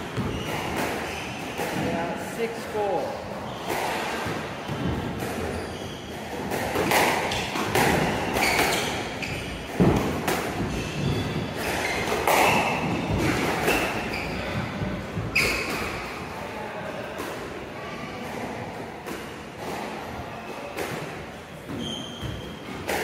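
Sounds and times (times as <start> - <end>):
squash ball hits echoing: 0.0 - 23.0.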